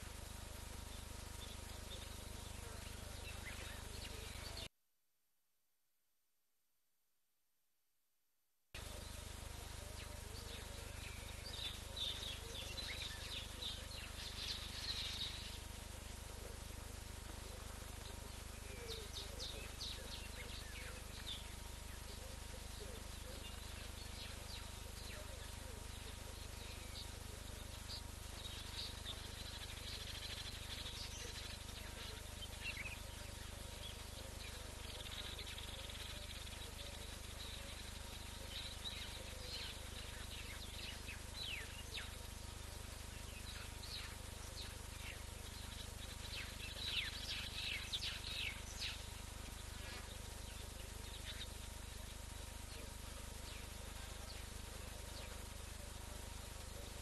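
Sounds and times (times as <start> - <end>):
low background hum: 0.0 - 4.7, 8.8 - 57.0
insect buzz: 8.8 - 57.0.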